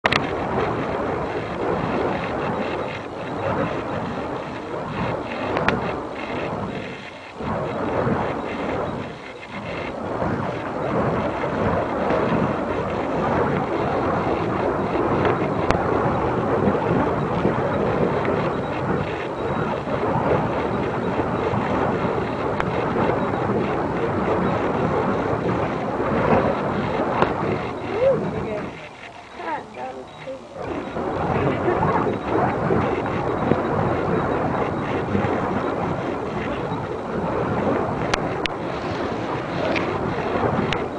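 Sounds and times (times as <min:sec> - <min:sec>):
fire poi whooshing: 0:00.0 - 0:40.9.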